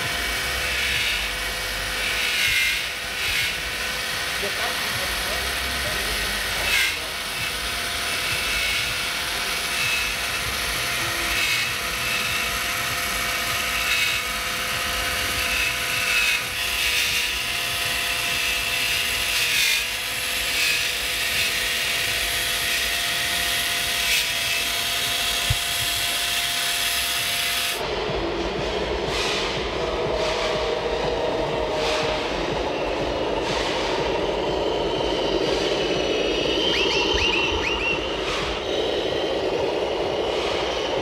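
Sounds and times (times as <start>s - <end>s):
small motor whining: 0.0s - 27.8s, 29.2s - 41.0s.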